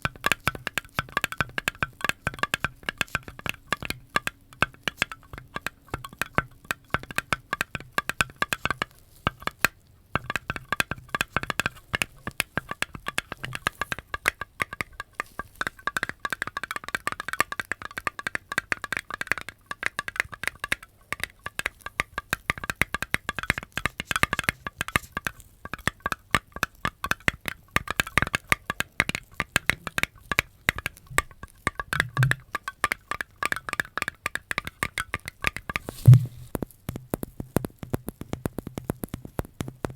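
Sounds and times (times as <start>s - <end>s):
small sharp clicks and crackles: 0.0s - 39.9s.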